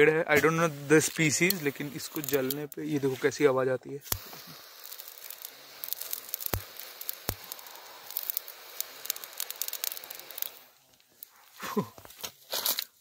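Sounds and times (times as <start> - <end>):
bark burning and crackling: 0.1 - 13.0.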